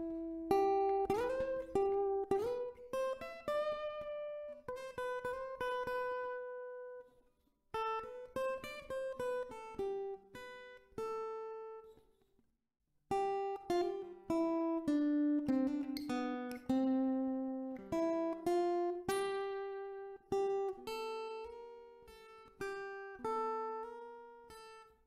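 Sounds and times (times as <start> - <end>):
fingerstyle acoustic guitar: 0.0 - 12.3, 13.1 - 25.0.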